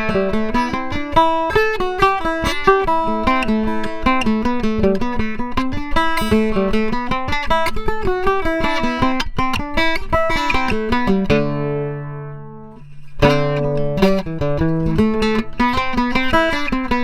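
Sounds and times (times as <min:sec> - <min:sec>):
mandolin picked single notes: 0:00.0 - 0:17.0.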